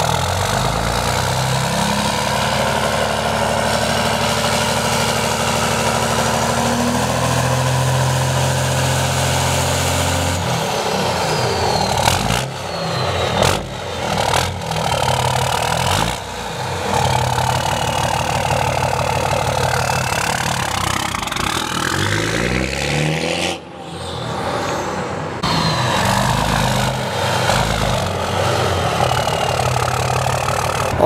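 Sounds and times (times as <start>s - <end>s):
diesel engine revving: 0.0s - 31.0s.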